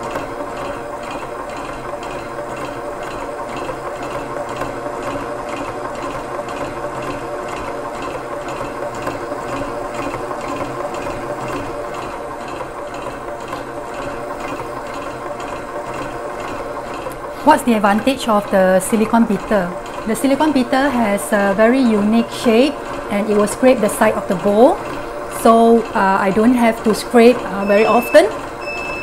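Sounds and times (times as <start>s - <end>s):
beater going round bowl: 0.0s - 29.0s
stand mixer motor humming: 0.0s - 29.0s.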